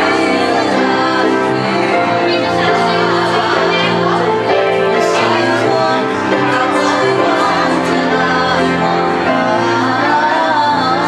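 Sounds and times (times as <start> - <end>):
voices singing in harmony: 0.0 - 11.0.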